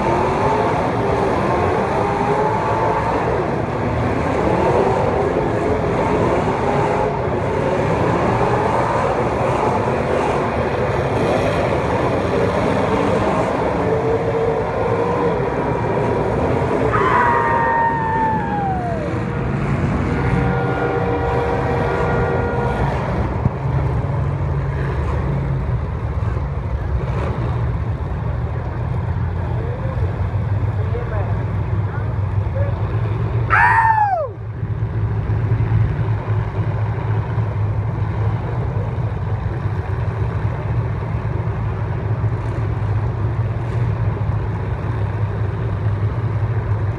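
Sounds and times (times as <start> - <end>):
racing engines: 0.0 - 46.9.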